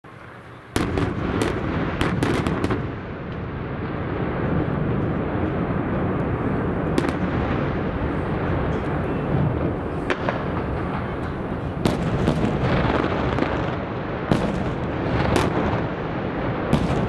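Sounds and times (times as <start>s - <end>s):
constant low rumble: 0.1s - 17.0s
explosive bangs: 0.8s - 17.0s.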